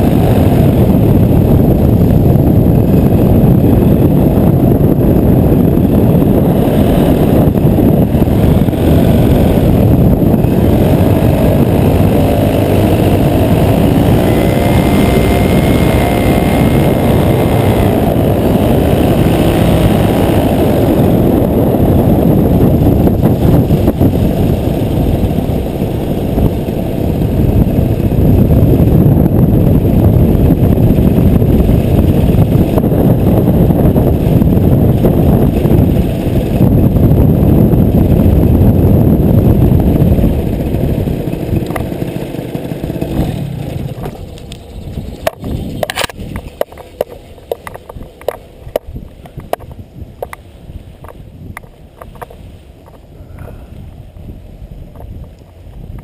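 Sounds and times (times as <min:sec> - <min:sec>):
paramotor engine and propeller: 0:00.0 - 0:56.0
wind buffeting on microphone: 0:00.0 - 0:56.0.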